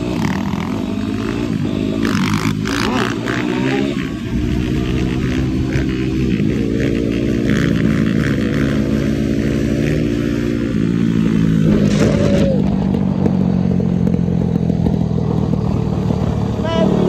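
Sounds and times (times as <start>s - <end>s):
vehicle engine running: 0.0s - 17.0s
wind and road noise: 0.0s - 17.0s.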